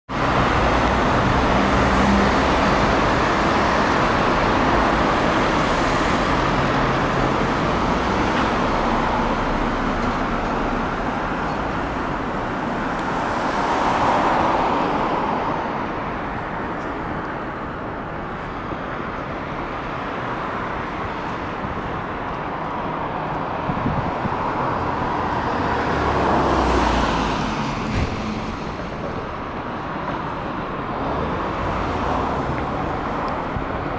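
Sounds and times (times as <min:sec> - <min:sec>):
cars going by: 0:00.1 - 0:33.9.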